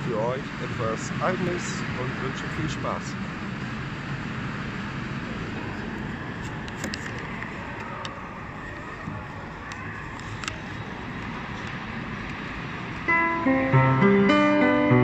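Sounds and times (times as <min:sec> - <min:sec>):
busy public space din: 0:00.0 - 0:13.7.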